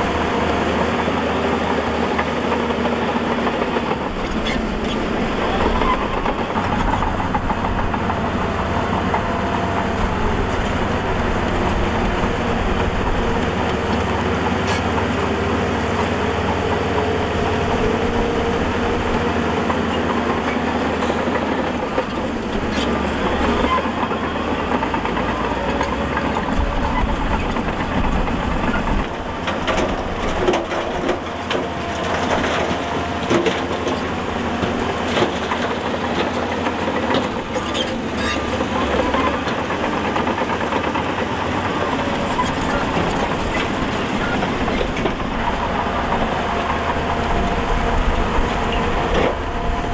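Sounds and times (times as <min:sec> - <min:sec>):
bulldozer diesel engine under load: 0:00.0 - 0:49.9.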